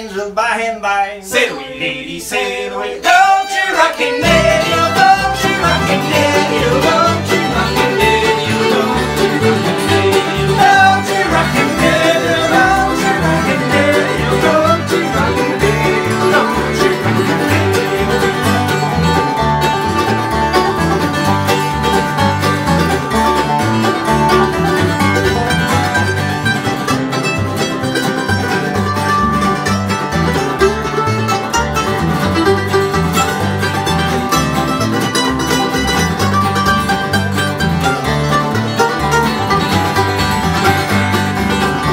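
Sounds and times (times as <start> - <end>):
upright bass: 0.0 - 41.9
banjo: 1.3 - 41.9
mandolin: 1.3 - 41.9
strummed acoustic guitars: 3.0 - 41.9.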